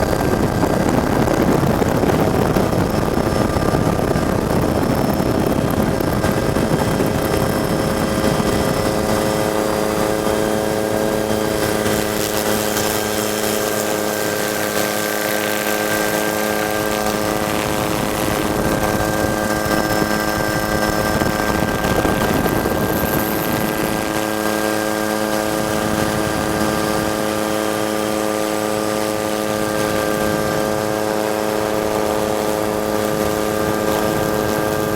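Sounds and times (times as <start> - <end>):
helicopter running: 0.0 - 34.9.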